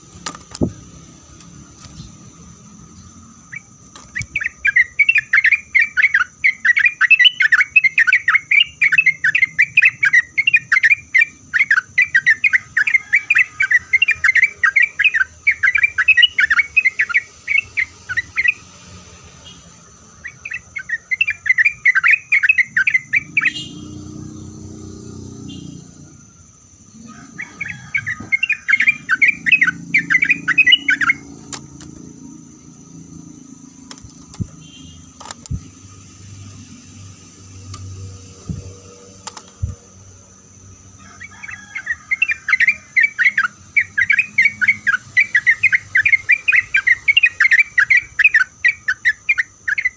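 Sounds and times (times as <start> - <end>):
bird chattering song: 1.7 - 18.7, 19.4 - 26.2, 26.8 - 49.9.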